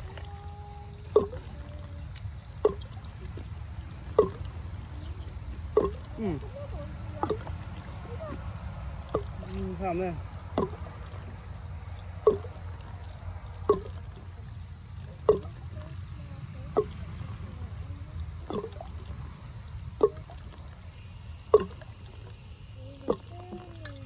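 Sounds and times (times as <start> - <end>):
water dripping: 0.0 - 24.0.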